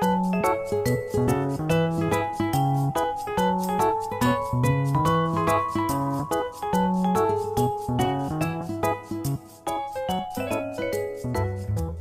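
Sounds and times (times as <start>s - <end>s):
upbeat piano tune over beat: 0.0s - 12.0s.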